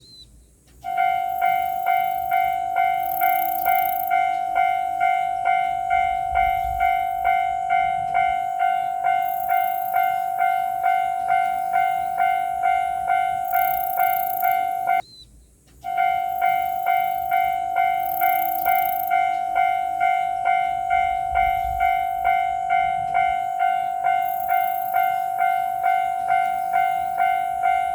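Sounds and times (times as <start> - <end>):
level crossing warning bell: 0.8 - 15.0, 15.8 - 27.9.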